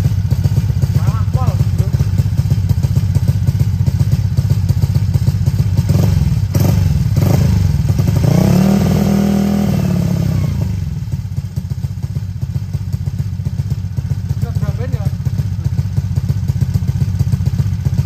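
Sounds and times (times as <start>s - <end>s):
scooter engine idling and revving: 0.0s - 18.0s.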